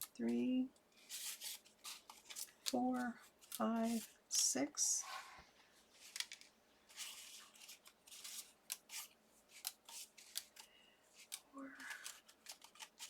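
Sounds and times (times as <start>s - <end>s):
paper rustles and clicks: 1.0s - 4.5s, 6.0s - 13.0s.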